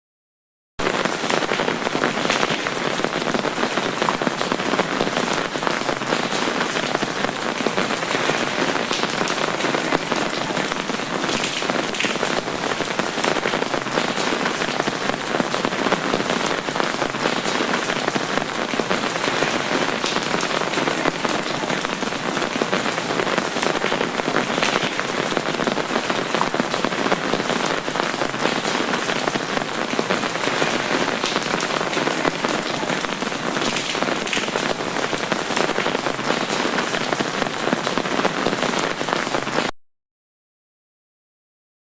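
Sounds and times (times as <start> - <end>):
rain drumming on an umbrella: 0.8 - 39.8.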